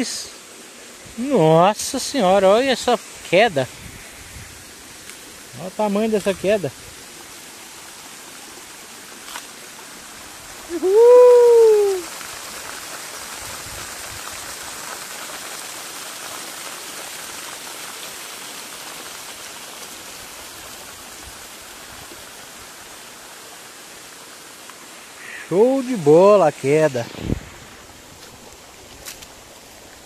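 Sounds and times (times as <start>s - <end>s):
waterfall hissing: 0.0s - 30.0s.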